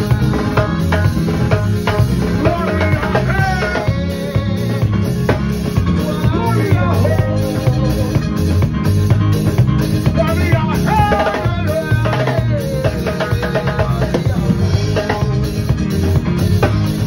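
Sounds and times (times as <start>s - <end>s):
bass guitar: 0.0s - 17.0s
drum kit beat: 0.0s - 17.0s
keyboard: 0.0s - 17.0s.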